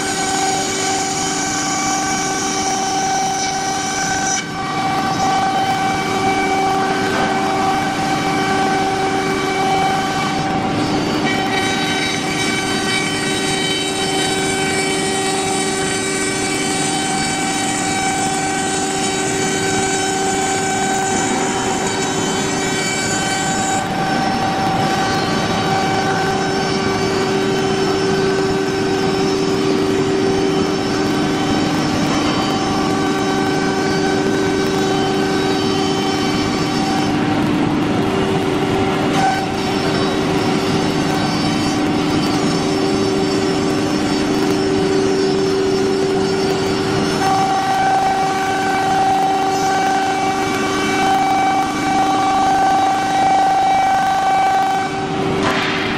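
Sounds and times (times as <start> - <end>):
cnc router spindle whine: 0.0 - 55.9
wood cutting noise: 0.0 - 55.9.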